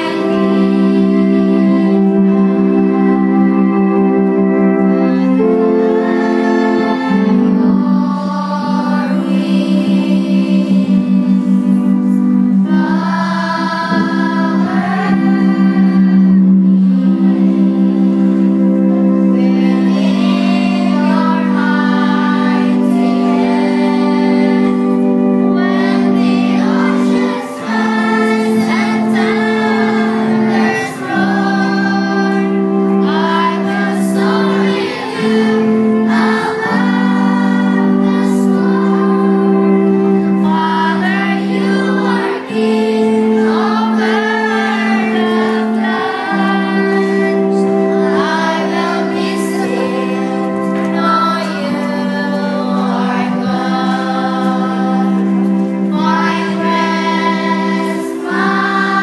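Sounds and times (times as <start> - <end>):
children singing a hymn: 0.0 - 59.0
held chords: 0.0 - 59.0.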